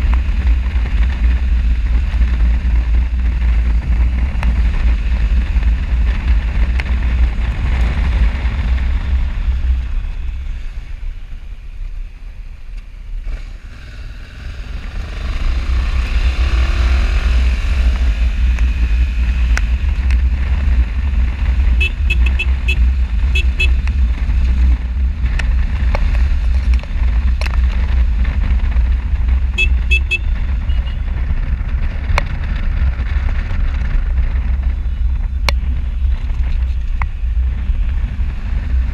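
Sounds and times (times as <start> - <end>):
motorcycle engine: 0.0 - 38.9
wind rumble: 0.0 - 38.9.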